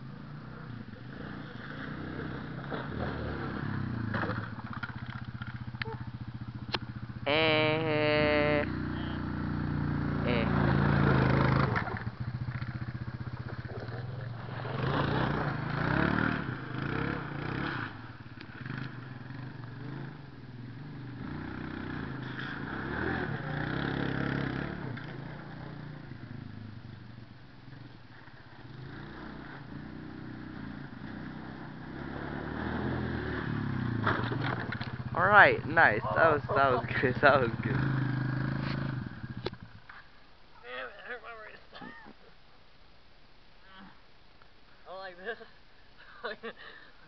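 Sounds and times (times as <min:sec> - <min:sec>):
atv engine revving: 0:00.0 - 0:40.2.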